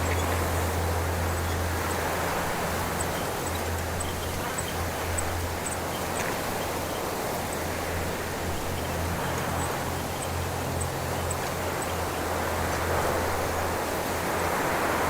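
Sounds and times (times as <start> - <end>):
wind rushing through bush: 0.0 - 15.0.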